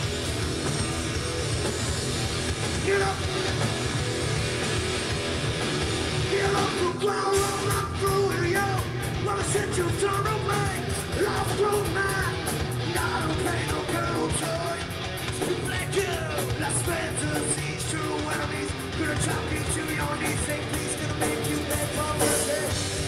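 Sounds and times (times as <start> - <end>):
rock band playing loud: 0.0 - 23.0.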